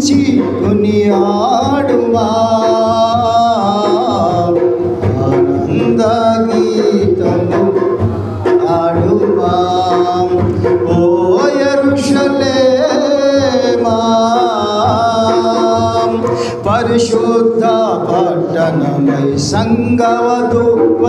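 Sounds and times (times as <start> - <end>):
man singing into microphone: 0.0 - 21.0.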